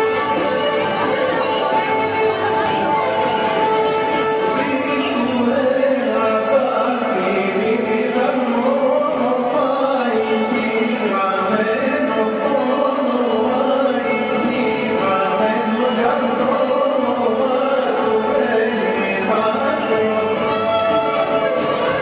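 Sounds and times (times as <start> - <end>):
folk dance music with singing: 0.0 - 22.0.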